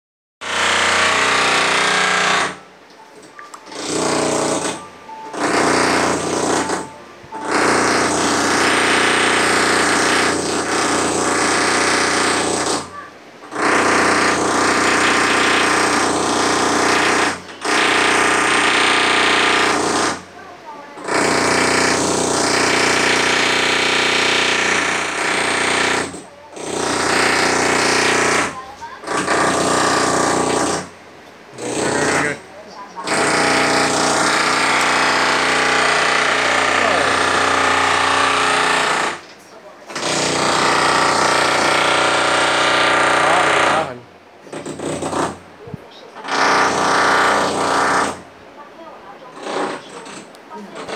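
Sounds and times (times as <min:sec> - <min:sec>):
power drill drilling: 0:00.4 - 0:02.6, 0:03.7 - 0:20.2, 0:21.0 - 0:30.9, 0:31.6 - 0:32.4, 0:33.0 - 0:39.2, 0:39.9 - 0:43.9, 0:44.6 - 0:45.4, 0:46.2 - 0:48.2.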